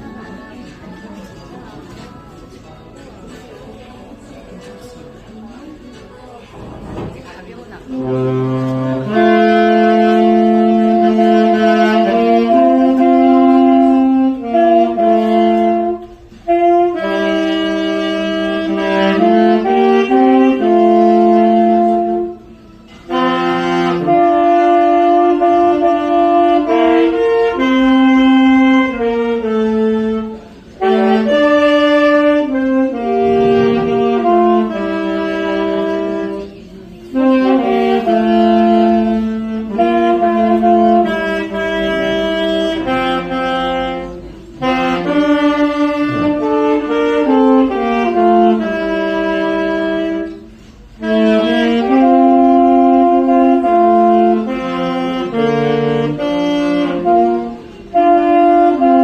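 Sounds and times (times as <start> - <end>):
saxophone playing slow melody: 7.8 - 59.0.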